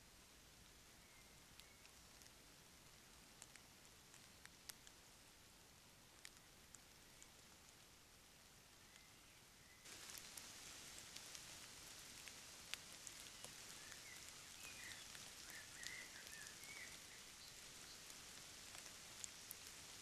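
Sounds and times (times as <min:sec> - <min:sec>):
faint microphone hiss: 0:00.0 - 0:20.0
faint ticks: 0:00.6 - 0:05.3, 0:06.1 - 0:07.9, 0:09.8 - 0:20.0.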